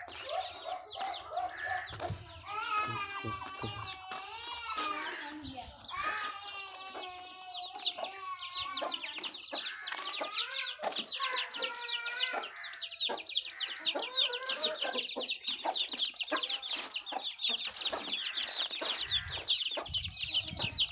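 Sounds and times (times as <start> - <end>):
chickens clucking: 0.0 - 20.9
chicks peeping: 0.0 - 20.9.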